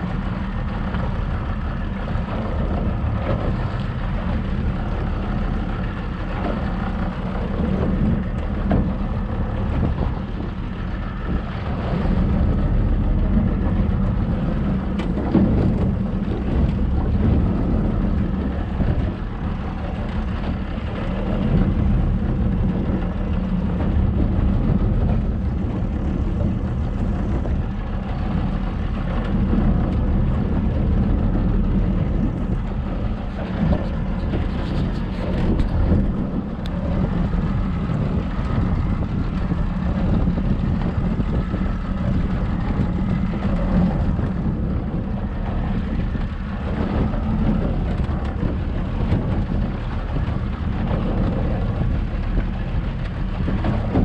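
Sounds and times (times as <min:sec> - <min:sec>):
motorboat engine running: 0:00.0 - 0:54.0
water rushing along hull: 0:00.0 - 0:54.0
wind on microphone: 0:00.0 - 0:54.0.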